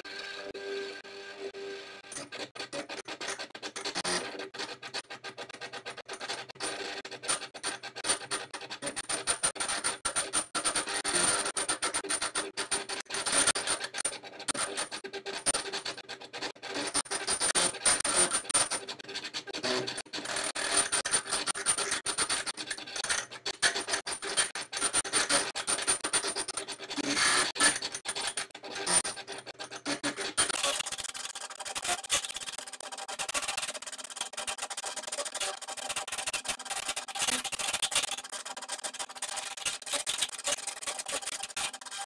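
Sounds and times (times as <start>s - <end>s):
stepper motors clicking and scratching: 2.0s - 42.0s.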